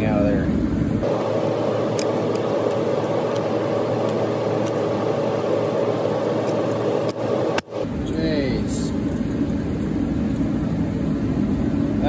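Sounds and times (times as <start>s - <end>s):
steady droning: 0.0s - 12.0s.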